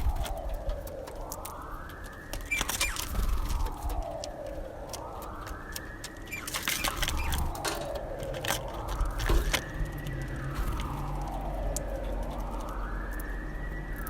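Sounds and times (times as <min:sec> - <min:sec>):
sharp clicks and crackles: 0:00.0 - 0:14.0
siren wailing: 0:00.0 - 0:14.0.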